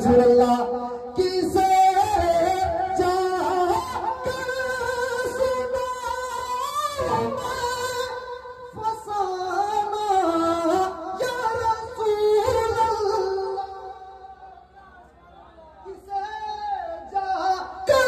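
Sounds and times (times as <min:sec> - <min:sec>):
man singing into a microphone: 0:00.0 - 0:14.5, 0:15.7 - 0:18.0.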